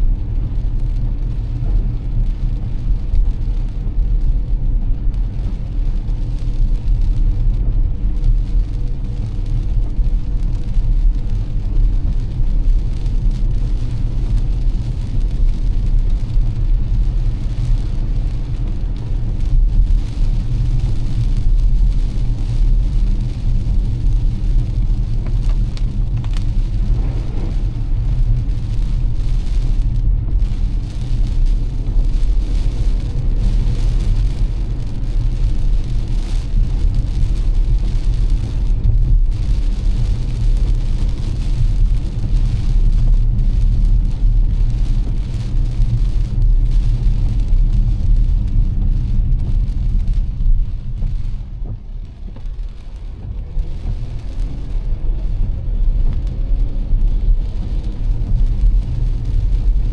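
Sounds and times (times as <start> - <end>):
car road rumble: 0.0 - 59.9
rain and wet tyres hiss: 0.0 - 59.9.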